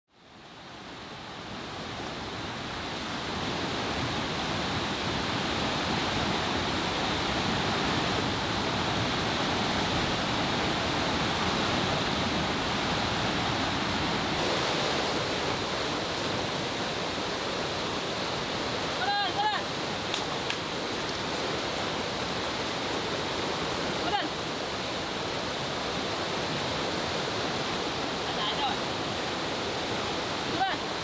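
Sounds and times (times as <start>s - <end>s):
rush of water: 0.1s - 31.0s.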